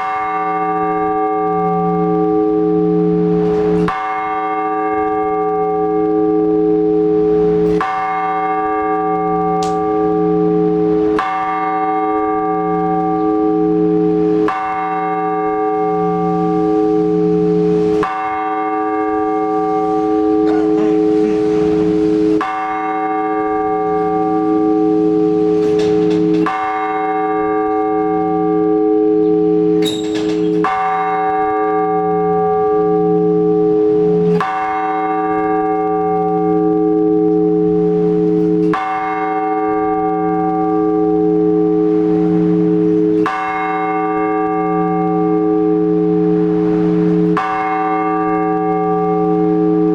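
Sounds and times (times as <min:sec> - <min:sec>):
large church bell tolling: 0:00.0 - 0:49.9.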